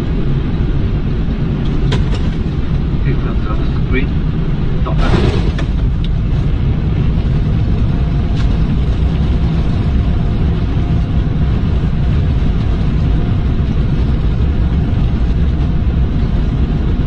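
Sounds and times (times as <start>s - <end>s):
engines and wheels rumbling: 0.0s - 17.0s.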